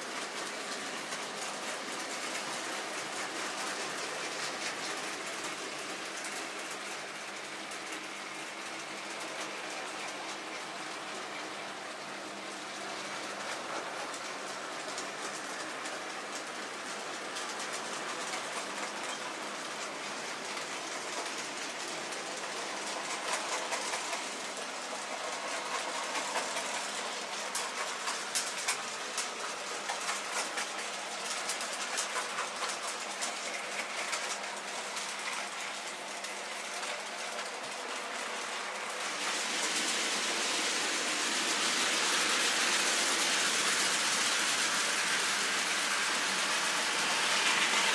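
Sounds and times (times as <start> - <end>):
model train wheels and motors whirring: 0.0 - 47.9.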